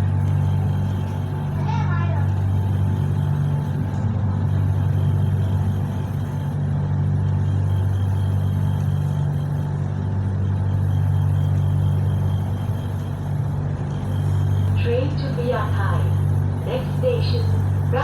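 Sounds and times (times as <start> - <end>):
motor vehicle engines droning: 0.0 - 18.0.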